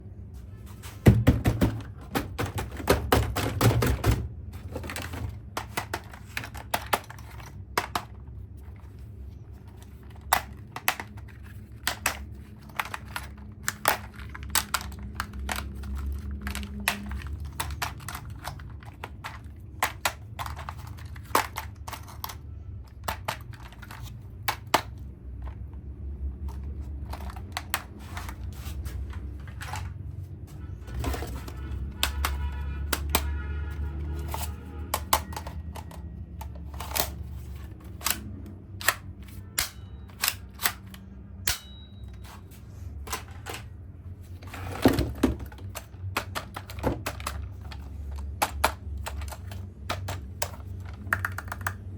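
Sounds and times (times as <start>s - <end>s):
plastic toys clicking and knocking: 1.0s - 30.1s, 30.8s - 42.4s, 43.0s - 51.9s.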